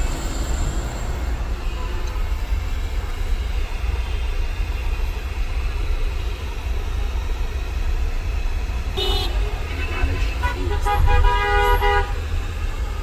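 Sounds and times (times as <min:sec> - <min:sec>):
car engine rumble: 0:00.0 - 0:13.0
city traffic: 0:00.0 - 0:13.0
road noise: 0:00.0 - 0:13.0.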